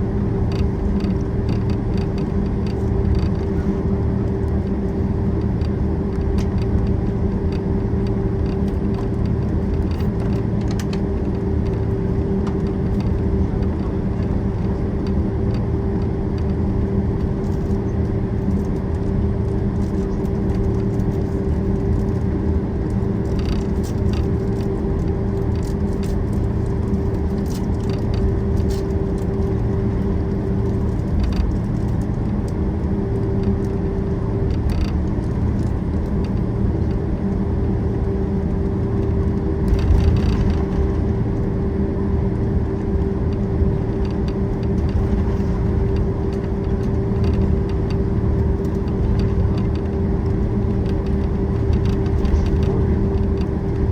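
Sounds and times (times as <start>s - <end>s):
jet engine rumble and hum: 0.0s - 53.9s.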